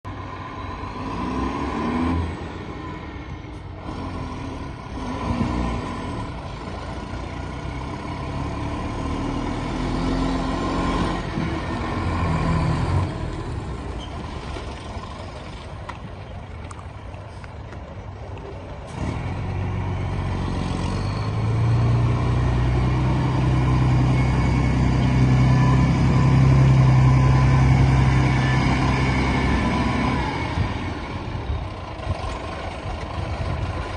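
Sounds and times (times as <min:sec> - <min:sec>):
truck diesel engine running: 0:00.1 - 0:15.9, 0:17.0 - 0:33.9.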